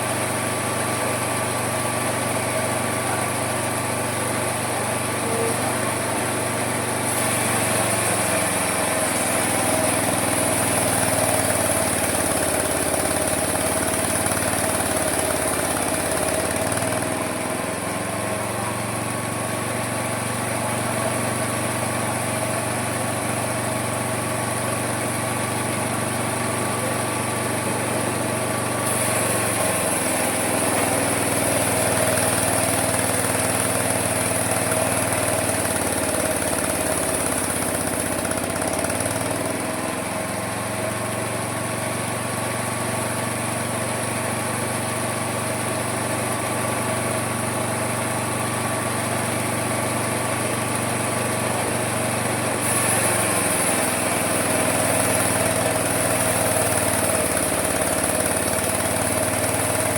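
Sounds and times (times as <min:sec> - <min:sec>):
saw cutting through wood: 0:00.0 - 0:59.9
sawmill running: 0:00.0 - 0:59.9.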